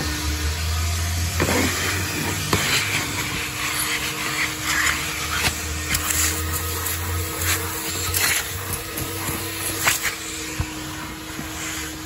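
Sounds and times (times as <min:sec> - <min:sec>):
vacuum hose suction rush: 0:00.0 - 0:12.0.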